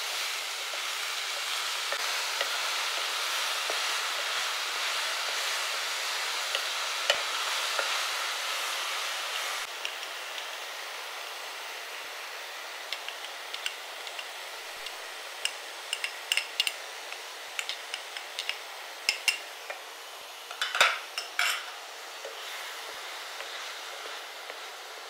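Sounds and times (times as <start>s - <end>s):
food sizzling in frying pan: 0.0s - 25.0s.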